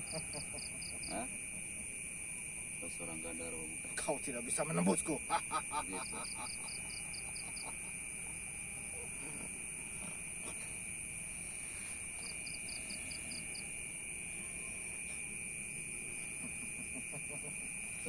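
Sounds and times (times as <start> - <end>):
high-pitched insect chorus: 0.0 - 18.0
rapid insect chirps: 0.0 - 18.0.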